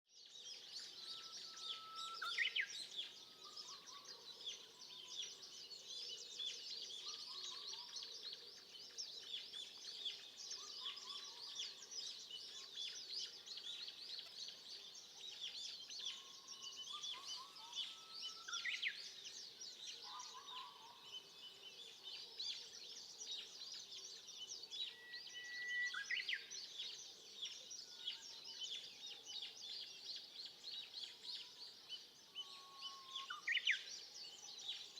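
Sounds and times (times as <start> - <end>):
birds twittering and chirping: 0.0 - 34.9.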